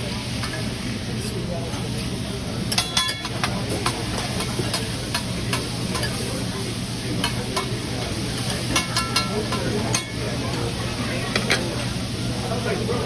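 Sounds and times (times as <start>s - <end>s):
food sizzling on a griddle: 0.0s - 12.9s.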